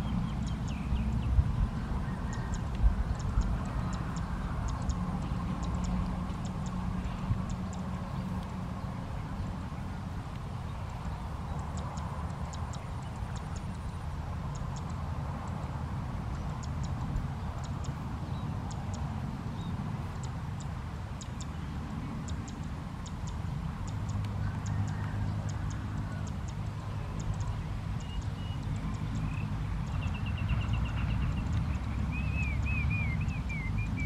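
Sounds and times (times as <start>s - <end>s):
steady low rumble: 0.0s - 34.0s
faint high ticks: 0.3s - 34.0s.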